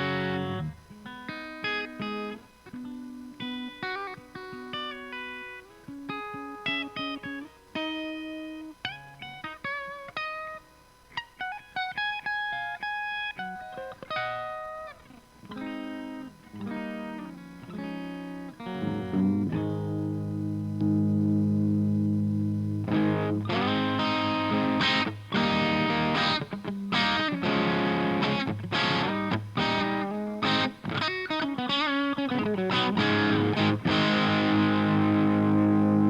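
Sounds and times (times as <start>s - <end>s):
electric guitar through small amp: 0.0s - 36.0s.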